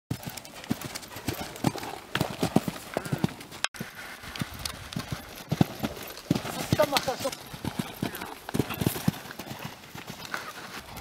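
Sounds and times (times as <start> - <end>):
horse hoofbeats on sand: 0.1 - 11.0.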